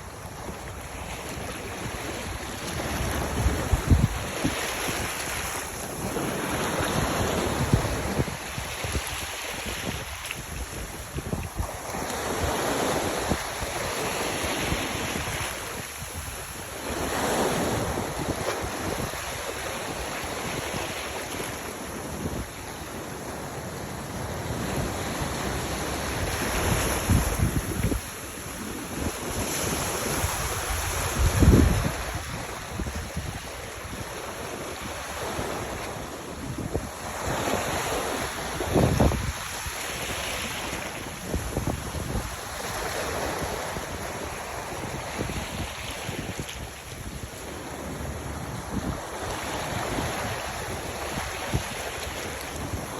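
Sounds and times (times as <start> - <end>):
wind buffeting microphone: 0.0 - 23.4, 24.1 - 52.9
sea waves washing in: 0.0 - 52.9.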